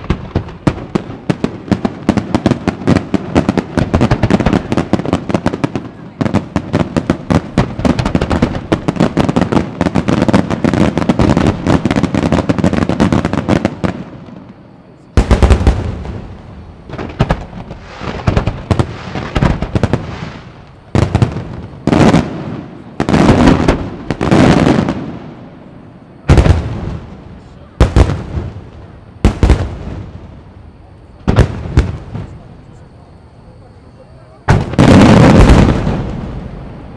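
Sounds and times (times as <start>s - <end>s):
loud firework shell booms: 0.0s - 14.1s, 15.2s - 25.4s, 26.2s - 30.3s, 31.2s - 32.5s, 34.4s - 36.8s
fireworks bursts and crackle: 0.0s - 36.9s.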